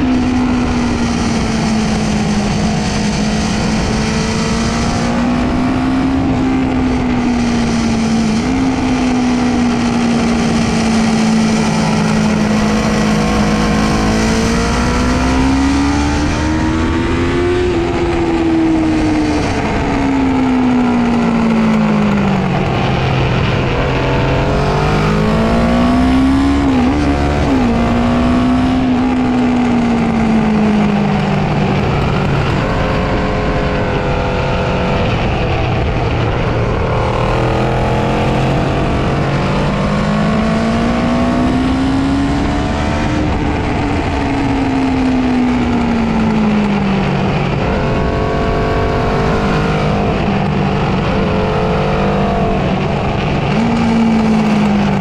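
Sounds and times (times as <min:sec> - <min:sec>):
motorcycle engine revving: 0:00.0 - 0:55.0
wind and tyre noise: 0:00.0 - 0:55.0.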